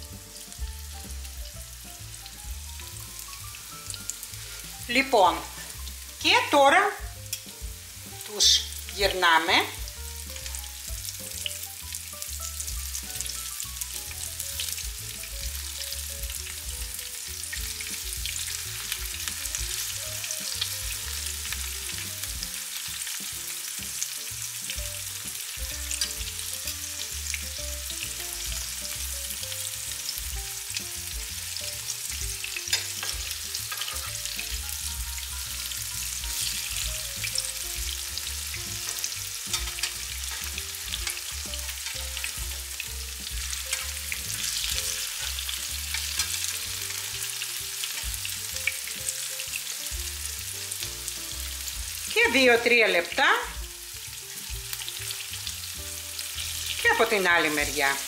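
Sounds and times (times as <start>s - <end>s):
fritters sizzling in oil: 0.0s - 58.0s.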